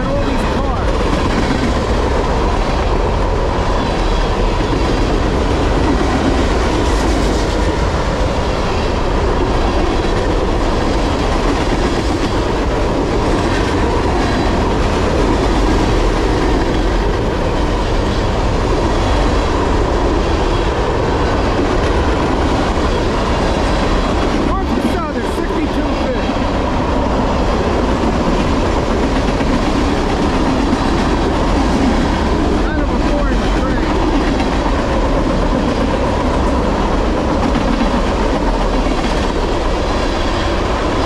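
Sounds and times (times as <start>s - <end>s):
steel wheels rumbling on rail: 0.0s - 41.0s
wheels clickety-clack: 0.0s - 41.0s.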